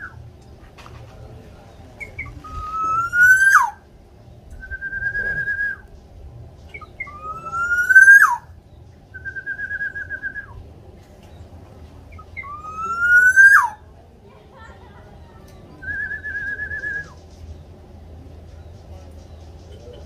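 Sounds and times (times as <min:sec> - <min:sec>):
oriole whistling calls: 0:00.0 - 0:00.2, 0:01.5 - 0:14.0, 0:15.2 - 0:20.0.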